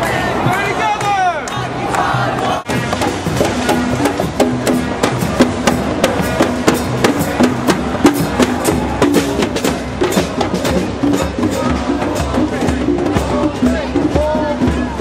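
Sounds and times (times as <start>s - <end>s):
snare drums marching beat: 0.4s - 15.0s.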